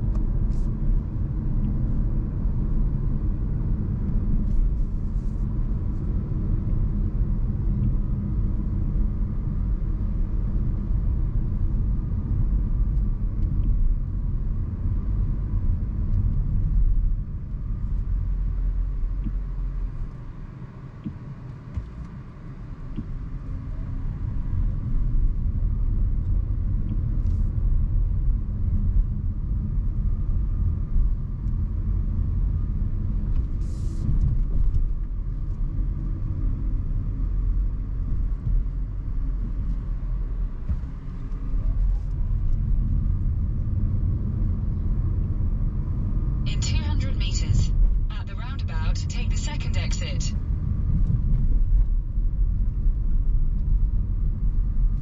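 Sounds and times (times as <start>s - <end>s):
road and tyre rumble: 0.0s - 46.4s.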